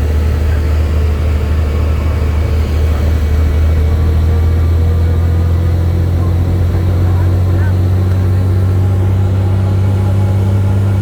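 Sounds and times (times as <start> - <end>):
helicopter rotor drone: 0.0 - 11.0.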